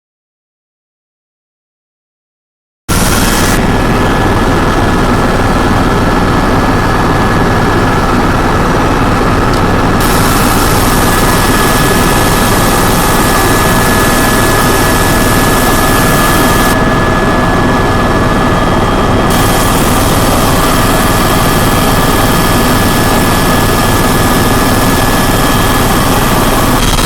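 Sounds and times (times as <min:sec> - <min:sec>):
helicopter engine and rotor noise: 0:02.9 - 0:27.0
constant whining tones: 0:03.0 - 0:27.0.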